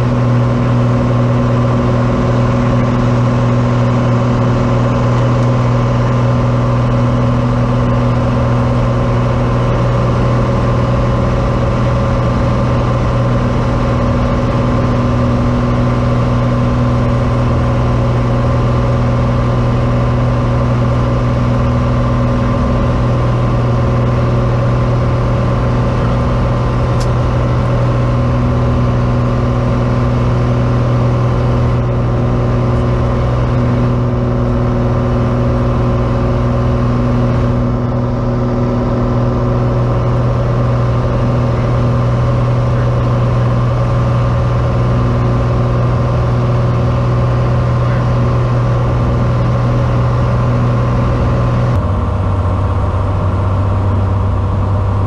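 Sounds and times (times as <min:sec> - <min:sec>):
aircraft engine and propeller drone: 0:00.0 - 0:55.0.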